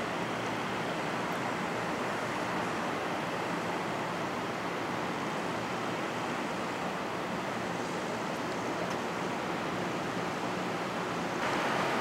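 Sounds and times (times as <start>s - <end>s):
outdoor rushing hiss: 0.0s - 12.0s.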